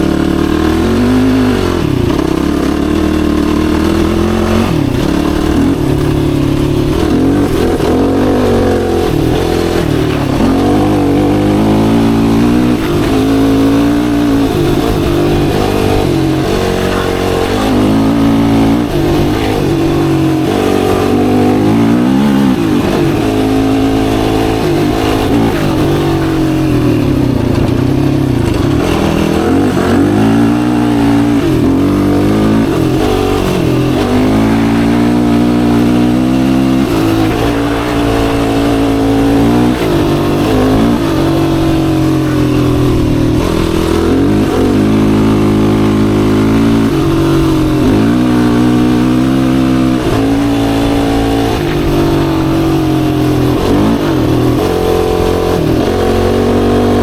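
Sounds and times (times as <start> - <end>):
quad engine revving under load: 0.0 - 57.0.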